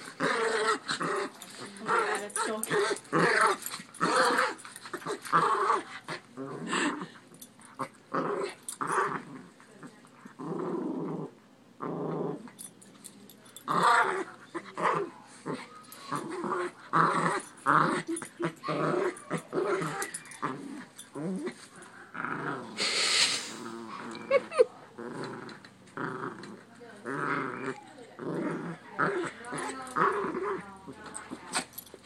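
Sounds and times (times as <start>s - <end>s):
small dogs growling: 0.0s - 12.7s, 13.6s - 31.9s.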